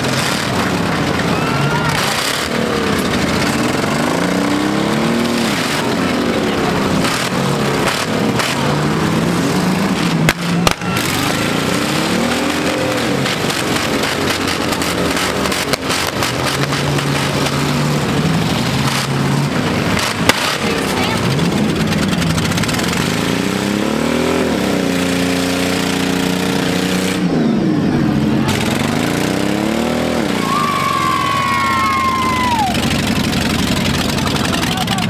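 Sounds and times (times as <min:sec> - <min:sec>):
truck engines revving: 0:00.0 - 0:35.0
trucks crashing: 0:00.0 - 0:35.0.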